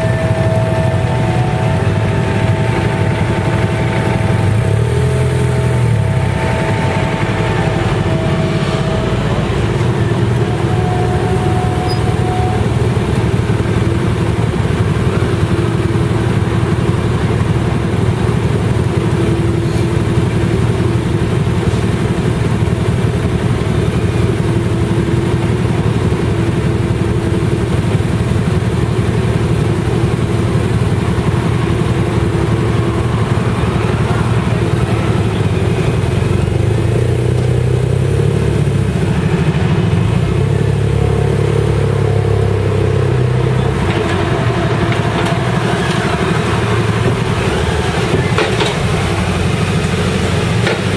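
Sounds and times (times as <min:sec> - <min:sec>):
motorcycle engines idling: 0:00.0 - 0:50.9.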